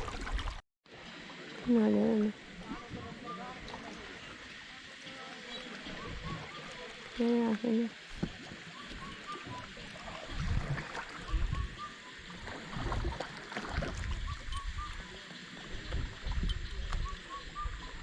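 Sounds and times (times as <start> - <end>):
oars swishing through water: 0.0 - 0.6, 2.4 - 18.0.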